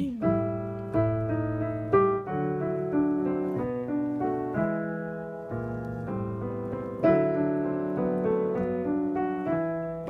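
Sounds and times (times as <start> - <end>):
slow jazz piano chords: 0.0 - 10.0.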